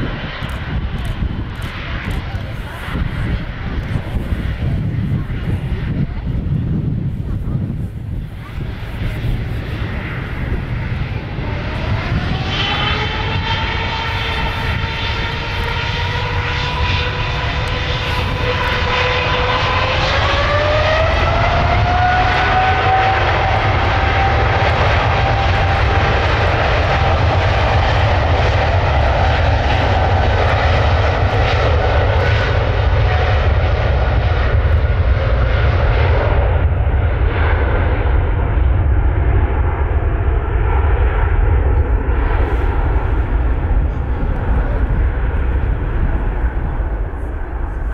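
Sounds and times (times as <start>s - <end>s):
deep rumble: 0.0s - 47.9s
jet engines whining: 0.0s - 47.9s.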